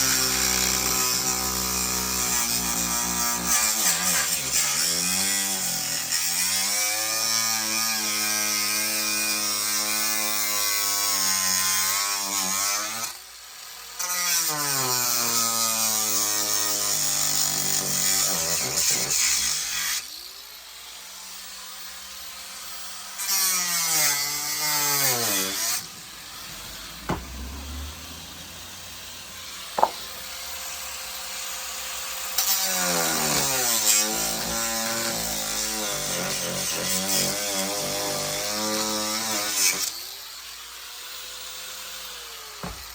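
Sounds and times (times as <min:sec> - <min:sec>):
electric power tool motor: 0:00.0 - 0:20.5, 0:22.0 - 0:40.5, 0:41.1 - 0:42.9.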